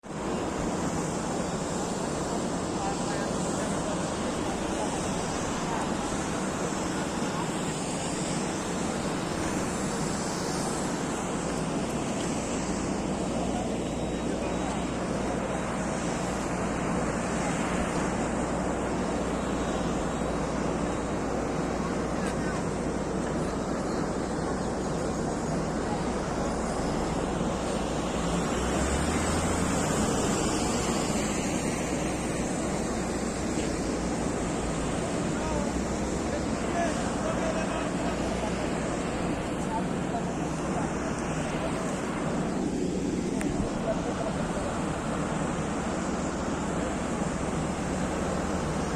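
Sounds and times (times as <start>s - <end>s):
airplane cabin roar: 0.0s - 48.9s.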